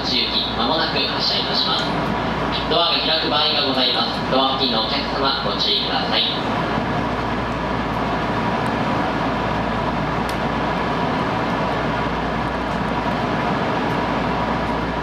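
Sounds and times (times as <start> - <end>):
electric train equipment hum: 0.0 - 15.0.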